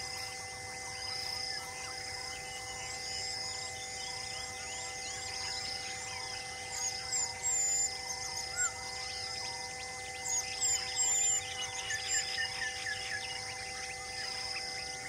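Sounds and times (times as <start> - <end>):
birds chirping: 0.0 - 15.0
steady humming tones: 0.0 - 15.0
whistled bird calls: 0.9 - 14.9.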